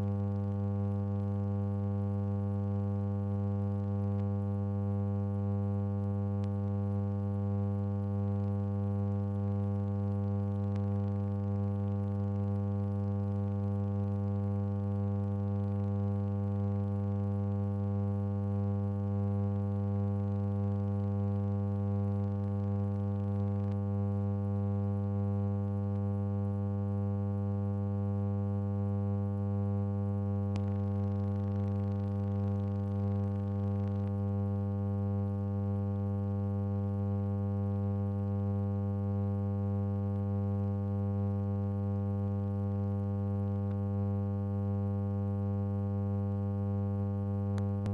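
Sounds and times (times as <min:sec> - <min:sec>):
electrical mains hum: 0:00.0 - 0:47.9.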